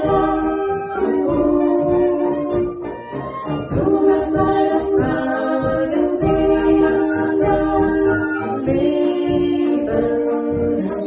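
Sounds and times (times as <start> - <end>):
brass band playing polka: 0.0 - 11.0
people singing: 0.0 - 11.0.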